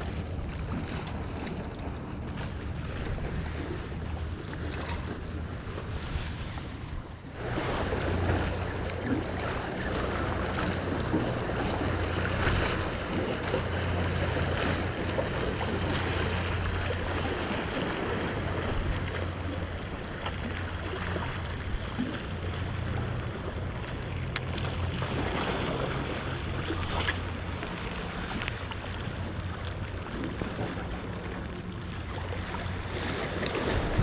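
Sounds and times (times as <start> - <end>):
surf washing on rocks: 0.0 - 34.0
wind buffeting microphone: 0.0 - 34.0.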